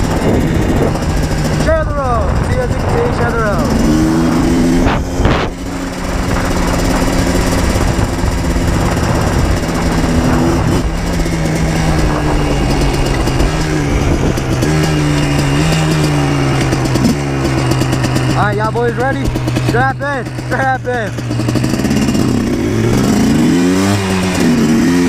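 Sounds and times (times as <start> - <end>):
two-stroke engine running: 0.0 - 25.0.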